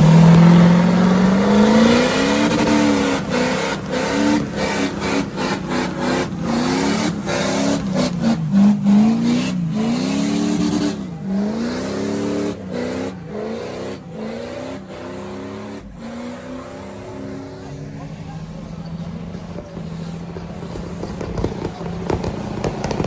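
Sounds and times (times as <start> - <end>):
diesel truck engine revving: 0.0 - 23.0.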